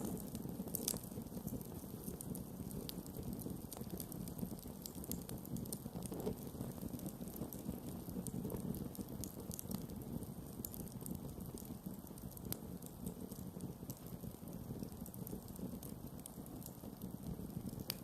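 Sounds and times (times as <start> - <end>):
rush of campfire flames: 0.0 - 18.0
wood crackling and popping: 0.0 - 18.0.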